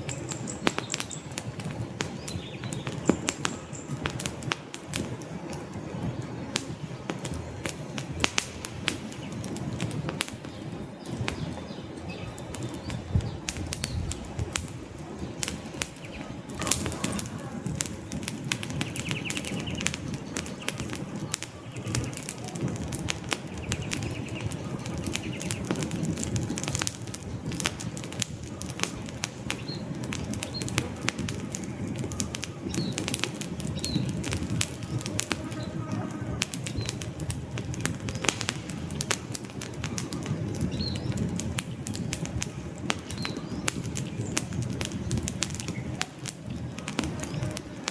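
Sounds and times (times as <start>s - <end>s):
logs crackling and popping: 0.0s - 47.9s
low rumble of flames: 0.0s - 47.9s.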